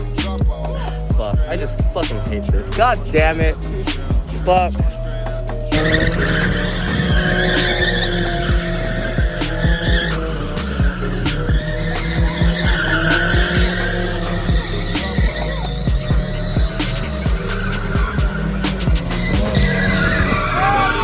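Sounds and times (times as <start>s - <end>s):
car engine running: 0.0s - 21.0s
car tyres squealing: 0.0s - 21.0s
music with steady beat: 0.0s - 21.0s.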